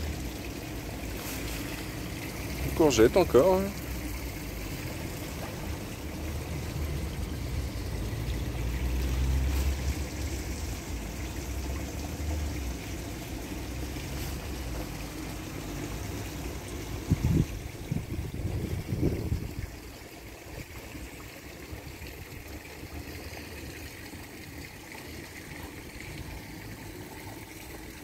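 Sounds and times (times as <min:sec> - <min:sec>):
water trickling: 0:00.0 - 0:28.0.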